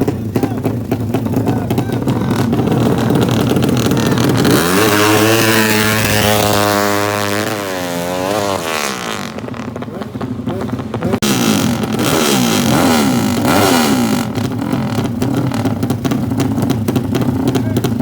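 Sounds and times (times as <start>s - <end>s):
racing engine revving: 0.0s - 18.0s.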